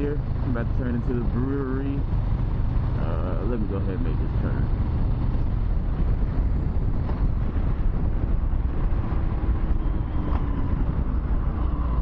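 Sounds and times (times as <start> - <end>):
heavy wind noise: 0.0 - 12.0
motorcycle engine at low speed: 0.0 - 12.0.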